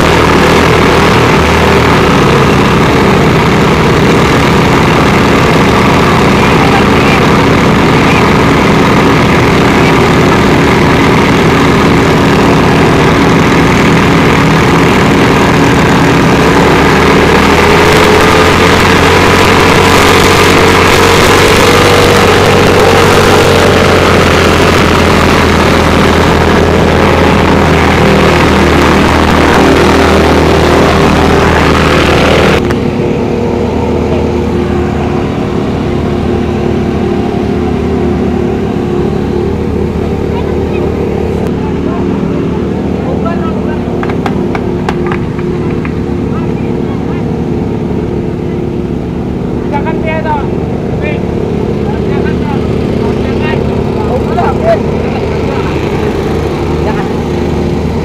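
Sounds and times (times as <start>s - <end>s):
pump engines running loud: 0.0s - 58.0s.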